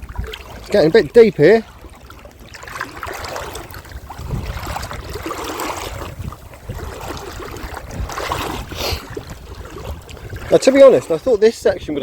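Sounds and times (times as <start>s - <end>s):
water sloshing around wading legs: 0.0s - 12.0s.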